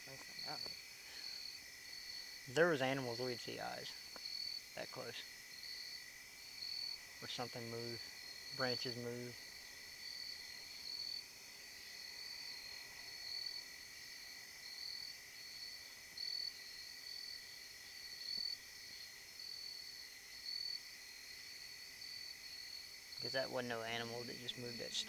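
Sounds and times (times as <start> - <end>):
crickets chirping pulses: 0.0 - 25.0
low insect trill: 0.0 - 25.0.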